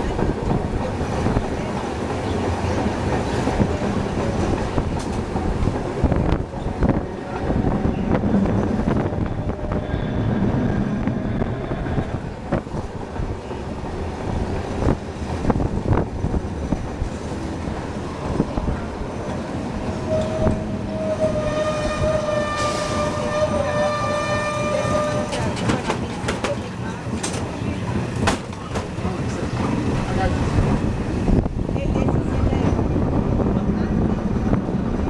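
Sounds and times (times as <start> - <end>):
streetcar rumbling on track: 0.0 - 35.0.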